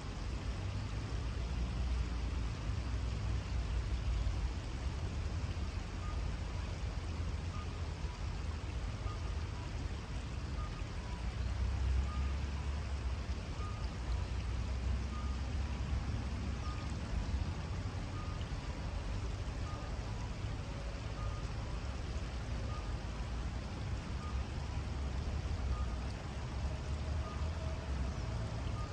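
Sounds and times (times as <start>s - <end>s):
river flowing: 0.0s - 28.9s
road traffic rumble: 0.0s - 28.9s.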